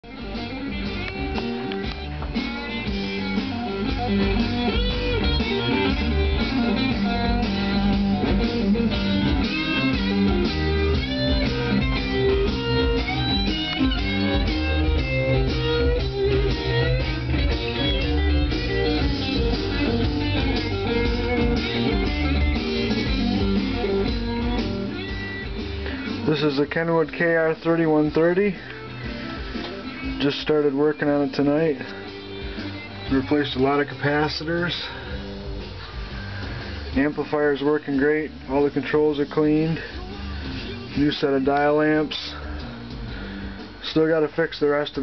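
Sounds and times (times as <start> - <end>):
blues electric guitar music: 0.0 - 45.0.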